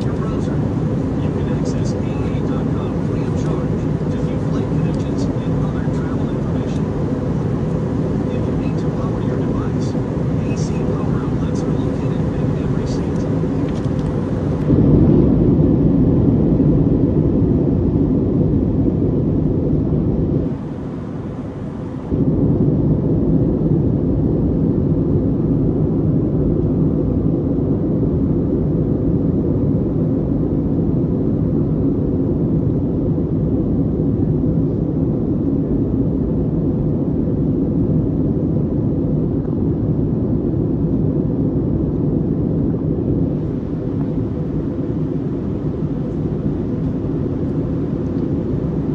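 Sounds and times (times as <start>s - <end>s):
airliner cabin engine rumble: 0.0s - 48.9s
faint steady hum: 0.0s - 48.9s.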